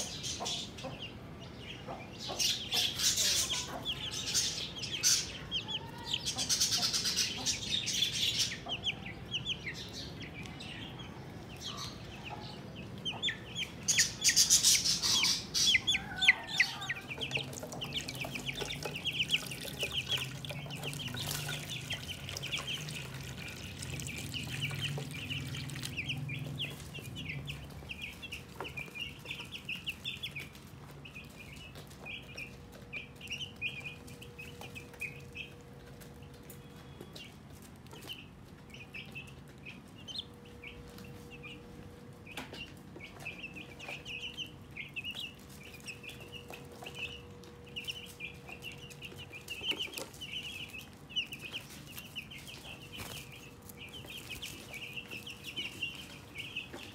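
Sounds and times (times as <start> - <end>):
chicks peeping: 0.0 - 56.9.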